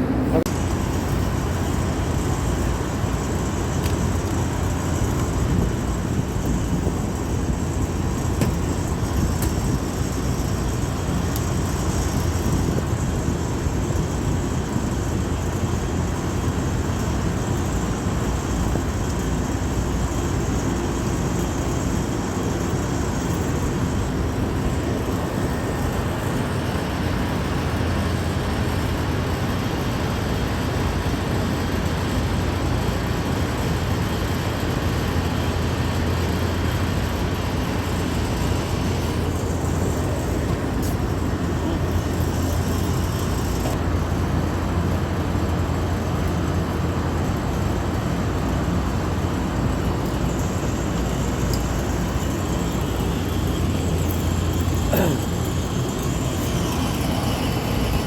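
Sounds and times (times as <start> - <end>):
low mechanical drone: 0.0 - 58.0.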